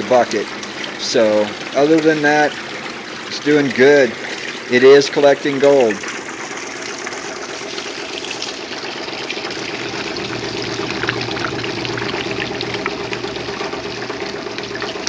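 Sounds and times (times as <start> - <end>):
motor hum: 0.0 - 15.0
water pouring into buckets: 0.0 - 15.0.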